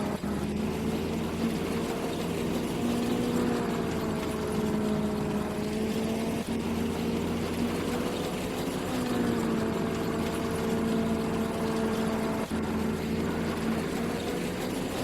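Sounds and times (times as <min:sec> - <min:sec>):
harvester engine running: 0:00.0 - 0:15.0.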